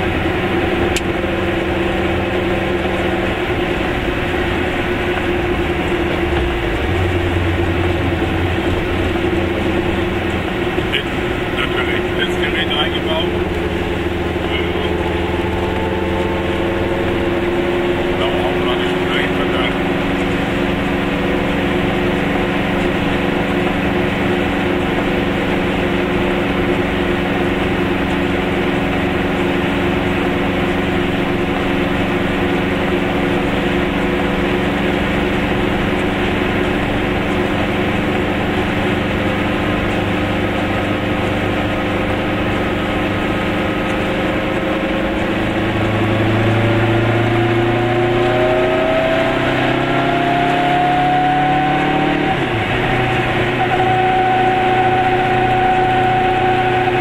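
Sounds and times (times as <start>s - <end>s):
small two-stroke engine running: 0.0s - 57.0s.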